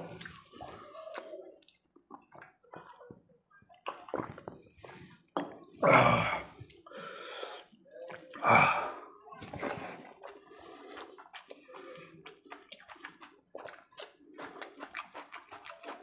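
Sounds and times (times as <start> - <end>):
man drinking water: 0.0 - 3.1, 3.8 - 16.0
wet eating and slurping: 0.0 - 3.1, 3.8 - 5.3, 6.4 - 16.0.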